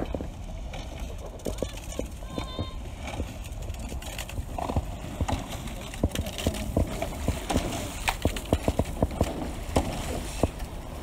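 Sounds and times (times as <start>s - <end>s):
sharp irregular knocks and clicks: 0.7s - 10.6s.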